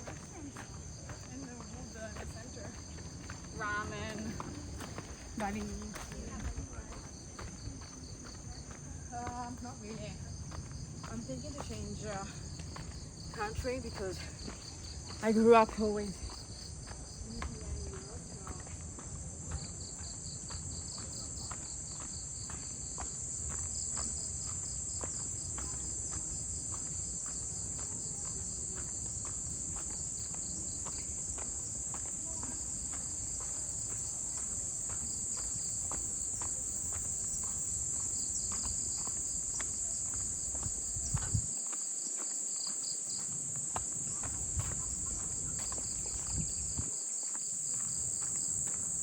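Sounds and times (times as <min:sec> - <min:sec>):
footsteps walking: 0:00.0 - 0:49.0.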